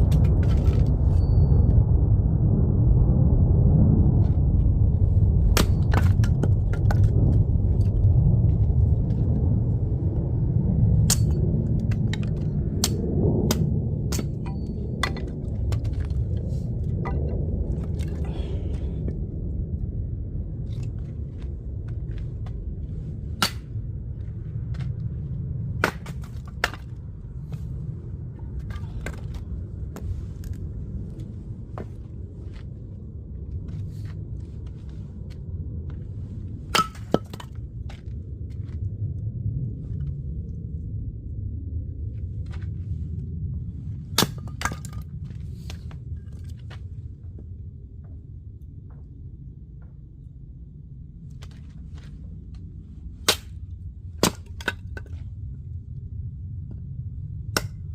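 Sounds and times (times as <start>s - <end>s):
steady low rumble: 0.0s - 57.9s.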